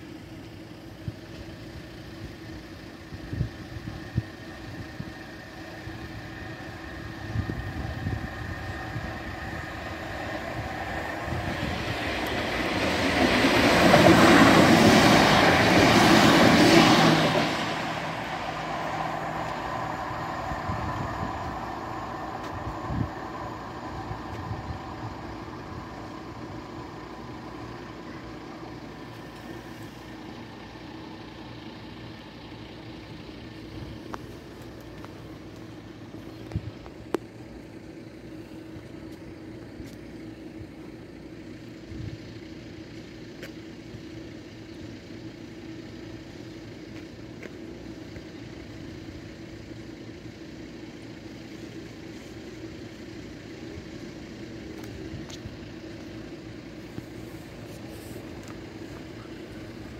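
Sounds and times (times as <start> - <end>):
electric train passing: 0.0 - 39.6, 47.7 - 59.9.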